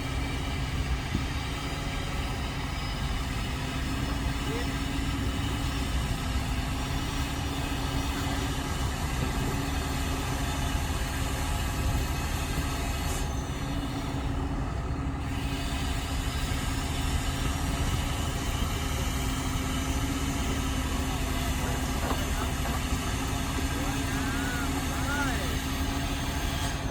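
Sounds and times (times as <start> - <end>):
heavy diesel engines humming: 0.0 - 26.9.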